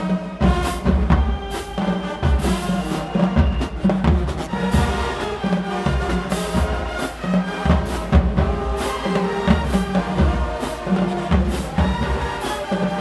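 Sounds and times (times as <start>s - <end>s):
bass drum and snare beat: 0.0s - 13.0s
brass playing loud chords: 0.0s - 13.0s.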